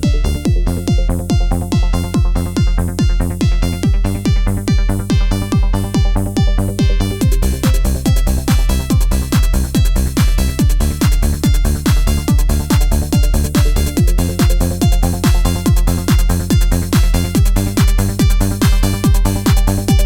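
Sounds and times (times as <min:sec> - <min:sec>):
electronic dance music: 0:00.0 - 0:20.0
kick drum beat: 0:00.0 - 0:20.0.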